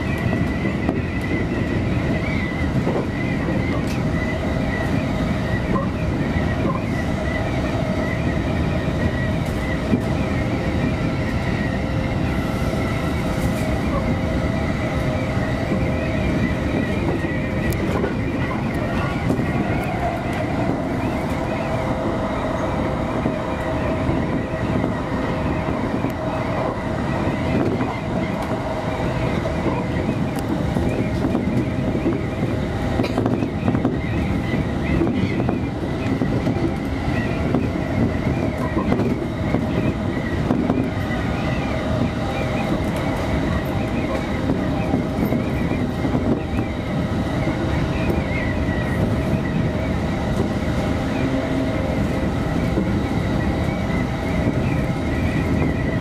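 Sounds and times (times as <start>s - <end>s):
electric train rumbling on rails: 0.0s - 56.0s.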